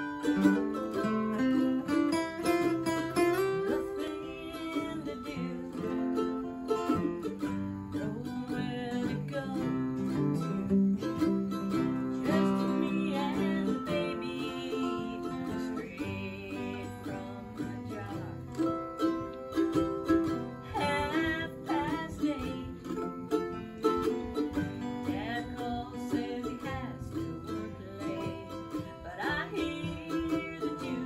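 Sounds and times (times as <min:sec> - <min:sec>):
mandolin melody: 0:00.0 - 0:31.0.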